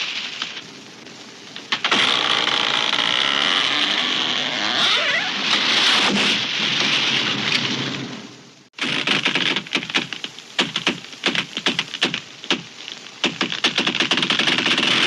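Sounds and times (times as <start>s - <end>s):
branches cracking and snapping: 1.5s - 7.7s, 8.8s - 15.0s
tree crashing down: 1.5s - 15.0s.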